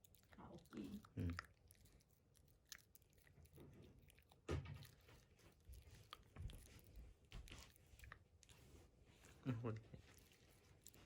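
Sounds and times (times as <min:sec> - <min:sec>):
puppy chewing with wet smacks: 0:00.0 - 0:11.0.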